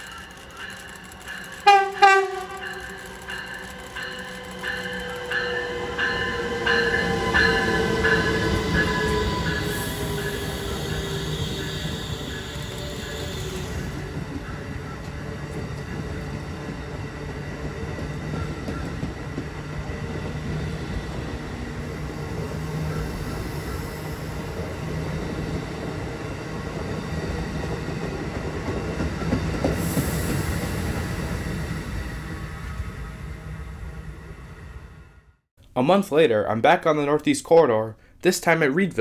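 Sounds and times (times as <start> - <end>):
train wheels on rail passing: 0.0 - 35.2.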